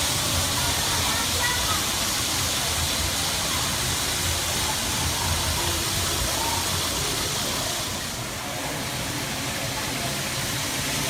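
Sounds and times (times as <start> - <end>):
faint voices: 0.0 - 11.0
low rumble of model trains: 0.0 - 11.0.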